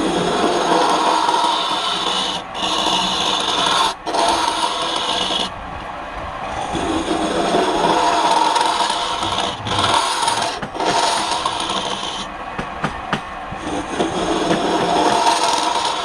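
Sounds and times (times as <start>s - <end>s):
lathe tool scraping wood: 0.0s - 5.6s, 6.5s - 12.3s, 13.5s - 16.0s.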